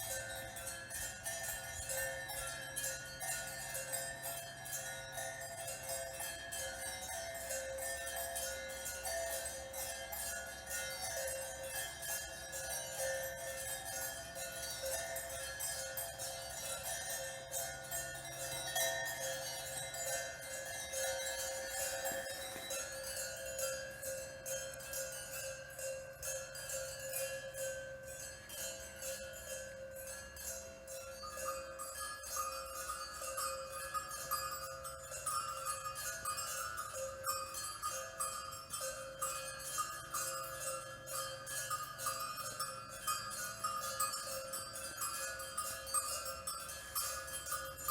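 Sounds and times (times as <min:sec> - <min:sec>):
ringing bell-like tones: 0:00.0 - 0:47.9
tinkling tiny clicks: 0:00.0 - 0:47.9.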